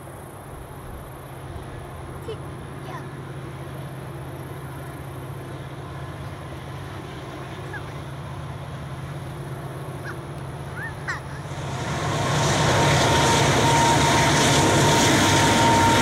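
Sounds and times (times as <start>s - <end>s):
distant vehicle engine rumble: 0.5s - 16.0s.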